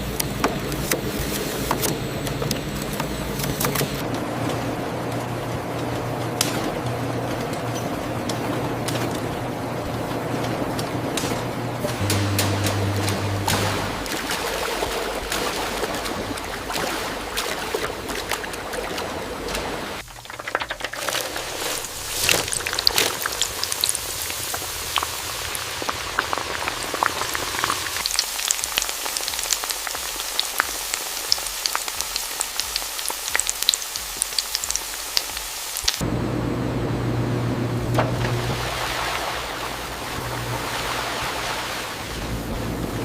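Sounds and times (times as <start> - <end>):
oil sizzling and popping: 0.0 - 18.7, 19.4 - 43.0.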